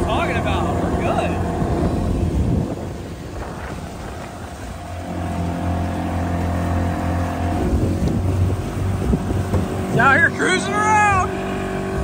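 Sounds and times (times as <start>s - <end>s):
boat motor running: 0.0s - 12.0s
boat wake wash: 0.0s - 12.0s.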